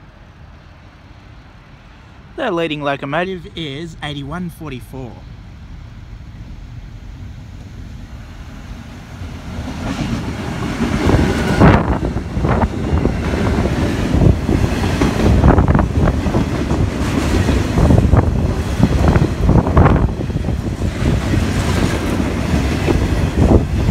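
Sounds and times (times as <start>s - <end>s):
freight train rumbling past: 0.0s - 23.9s.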